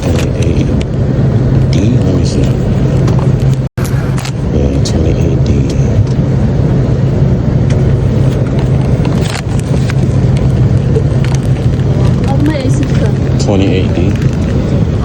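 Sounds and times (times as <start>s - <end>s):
airliner cabin hum: 0.0s - 15.0s.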